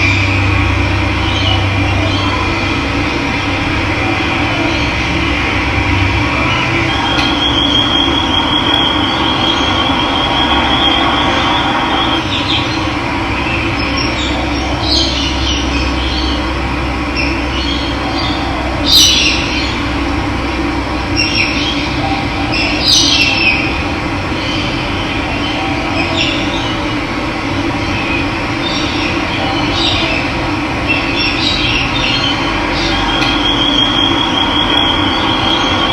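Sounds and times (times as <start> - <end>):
birds chirping and trilling: 0.0 - 20.3, 20.9 - 35.9.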